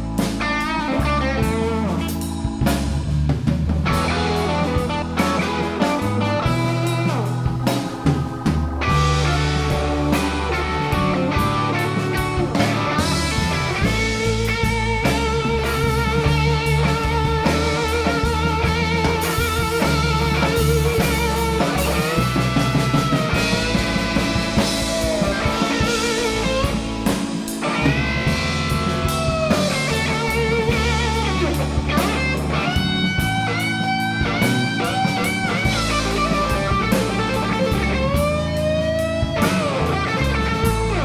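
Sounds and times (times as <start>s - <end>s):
electric guitar solo: 0.0s - 3.1s, 3.8s - 41.0s
blues band playing: 0.0s - 41.0s.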